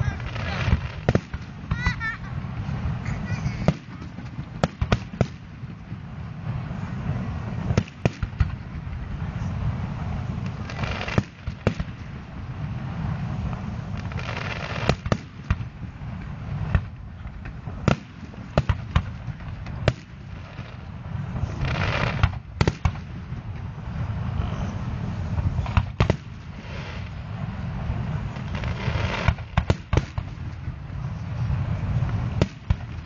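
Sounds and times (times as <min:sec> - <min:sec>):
firework crackling: 0:00.0 - 0:33.0.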